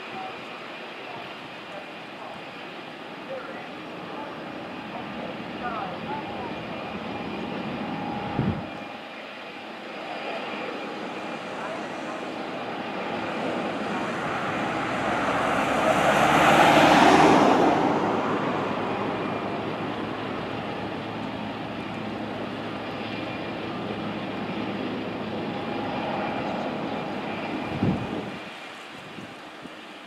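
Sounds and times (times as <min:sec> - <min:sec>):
distant jet engine: 0:00.0 - 0:30.0.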